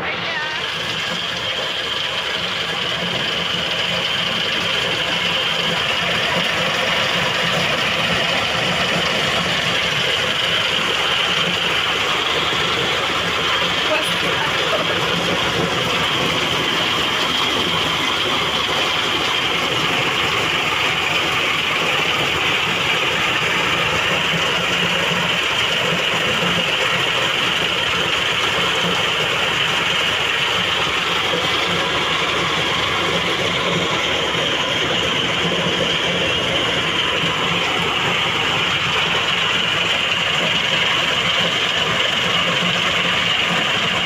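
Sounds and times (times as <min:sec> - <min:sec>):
corn sheller clattering: 0:00.0 - 0:44.0
low engine hum: 0:00.0 - 0:44.0.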